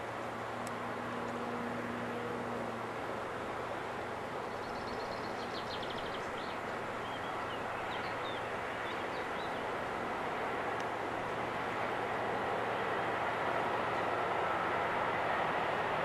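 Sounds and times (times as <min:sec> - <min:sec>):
distant freight train rumble: 0:00.0 - 0:16.0.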